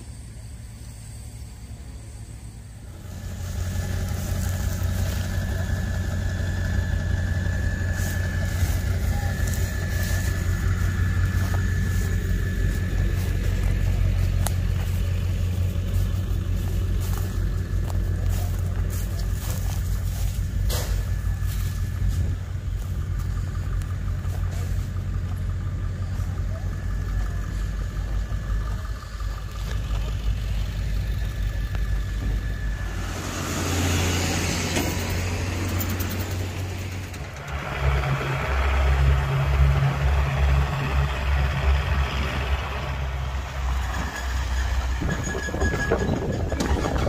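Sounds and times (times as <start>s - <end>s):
truck engine passing under load: 0.0s - 47.0s
vehicle engine running: 0.0s - 47.0s
tyres on gravel: 2.8s - 47.0s.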